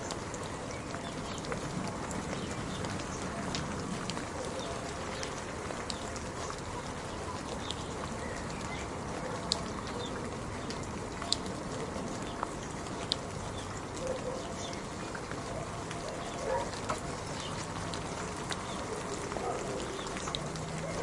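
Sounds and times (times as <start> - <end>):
drips tapping: 0.0 - 21.0
steady rain hiss: 0.0 - 21.0.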